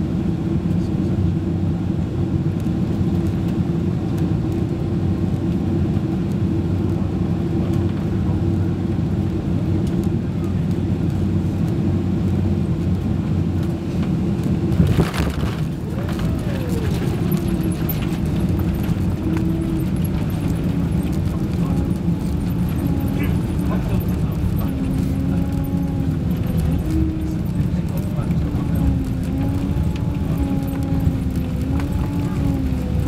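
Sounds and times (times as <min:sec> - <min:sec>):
aircraft cabin engine rumble: 0:00.0 - 0:33.0.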